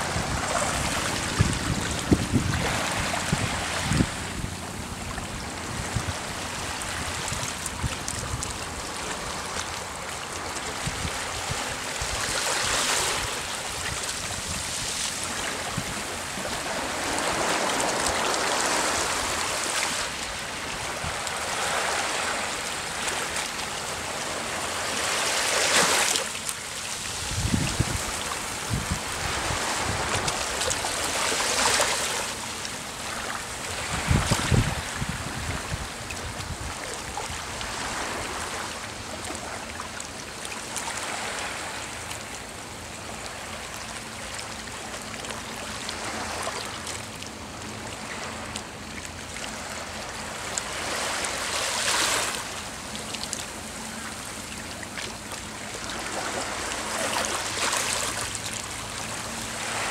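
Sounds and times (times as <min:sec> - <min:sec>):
small waves lapping on shore: 0:00.0 - 0:59.9.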